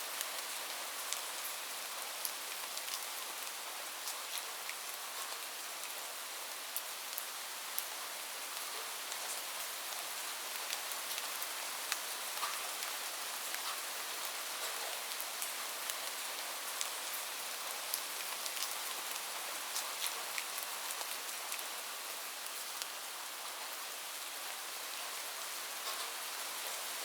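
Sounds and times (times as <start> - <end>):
steady rain hiss: 0.0 - 27.0
raindrops ticking on a surface: 0.2 - 23.7, 25.7 - 26.8.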